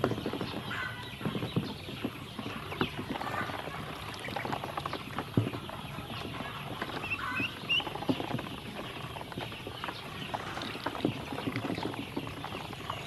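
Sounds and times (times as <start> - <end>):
duckling peeping: 0.4 - 13.0.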